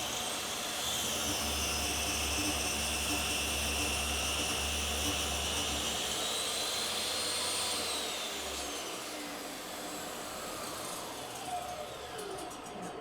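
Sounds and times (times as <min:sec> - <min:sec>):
table saw whining: 0:00.0 - 0:12.4.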